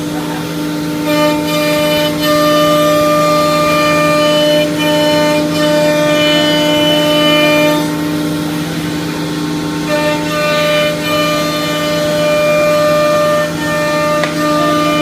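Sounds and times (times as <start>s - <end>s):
router cutting wood: 0.0s - 15.0s
router spindle whine: 0.0s - 15.0s.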